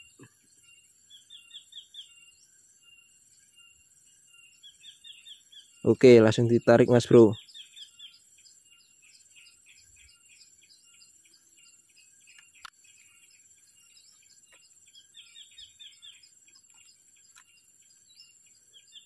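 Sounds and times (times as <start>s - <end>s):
high insect whine: 0.0s - 19.0s
small birds chirping: 0.0s - 19.0s.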